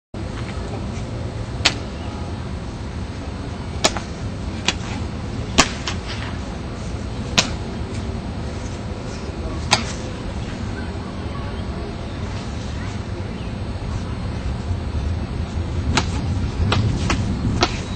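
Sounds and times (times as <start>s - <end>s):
low background noise: 0.2s - 17.9s.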